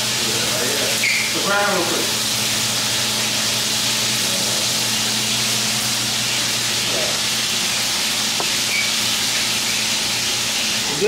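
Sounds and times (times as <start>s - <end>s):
bacon sizzling in a pan: 0.0s - 11.0s.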